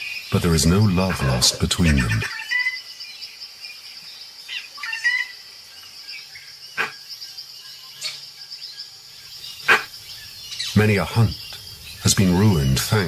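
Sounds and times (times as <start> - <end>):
bird chirps: 0.0 - 13.0
high insect drone: 0.0 - 13.0.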